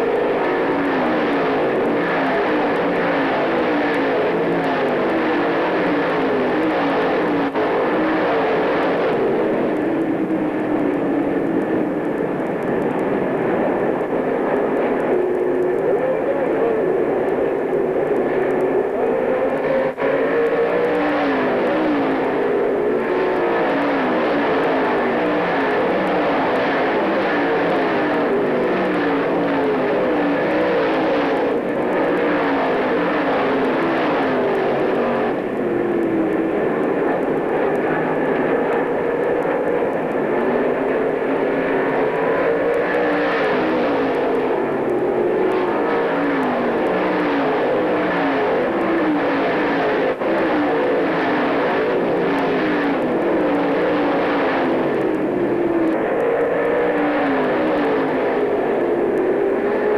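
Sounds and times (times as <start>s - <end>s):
stock car engines racing: 0.0s - 59.9s.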